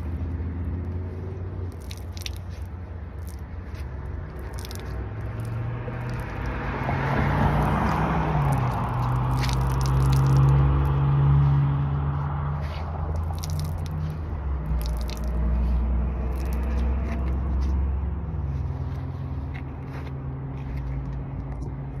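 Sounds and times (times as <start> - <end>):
low engine hum: 0.0 - 22.0
sweat dripping onto asphalt: 0.0 - 22.0.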